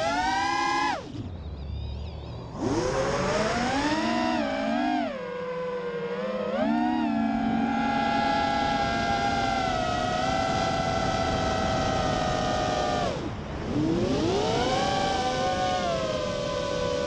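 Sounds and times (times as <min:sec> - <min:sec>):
drone motors and propellers whining: 0:00.0 - 0:17.0.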